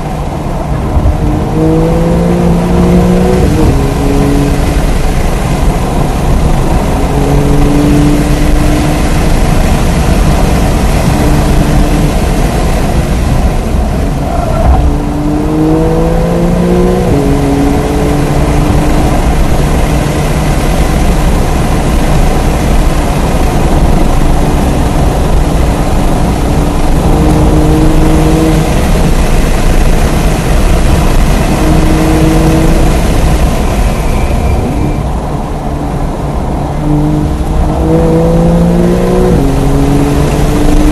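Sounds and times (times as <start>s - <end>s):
car engine at full throttle: 0.0s - 40.9s
wind and tyre noise: 0.0s - 40.9s.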